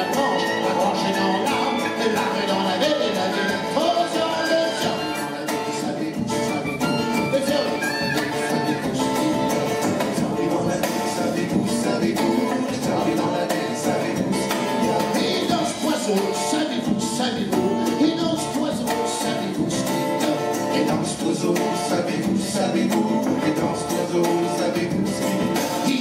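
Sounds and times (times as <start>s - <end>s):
acoustic guitar strumming: 0.0s - 26.0s
folk instruments playing: 0.0s - 26.0s.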